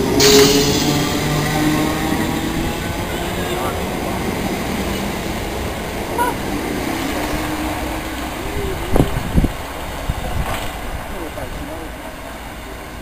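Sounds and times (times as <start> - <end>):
electric train pulling out: 0.0 - 10.9.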